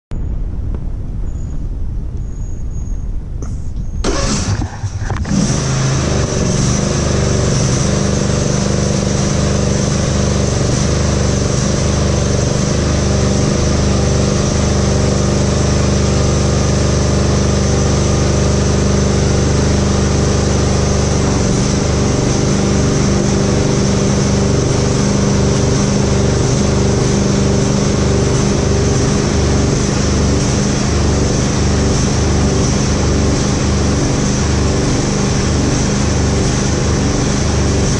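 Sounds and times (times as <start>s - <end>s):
lawn tractor engine running: 3.4s - 37.9s.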